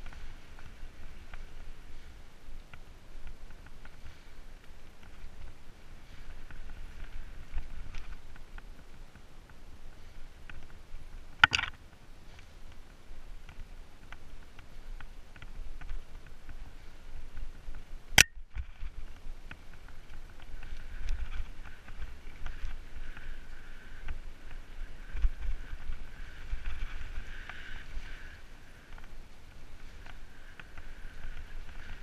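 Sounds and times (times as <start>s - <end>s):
bike clicks and rattles: 0.0s - 32.0s
bike tyres rumbling over dirt: 0.0s - 32.0s.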